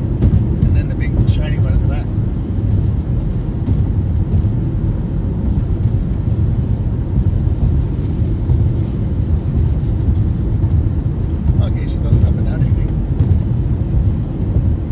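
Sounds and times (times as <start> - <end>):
vehicle rumble: 0.0 - 14.9.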